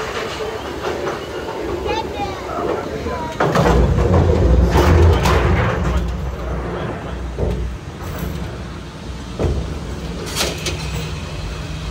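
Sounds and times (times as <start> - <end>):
cable car low rumble: 0.0 - 11.9.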